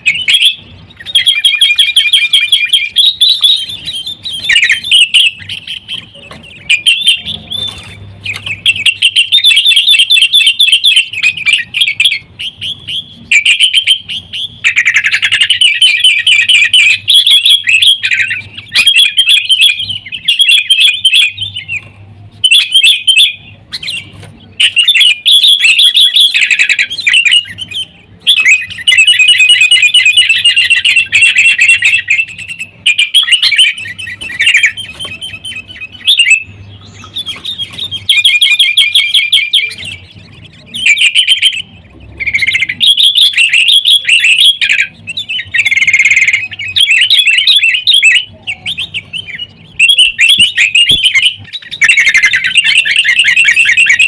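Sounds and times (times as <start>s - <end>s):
bulbuls chirping: 0.0s - 54.0s.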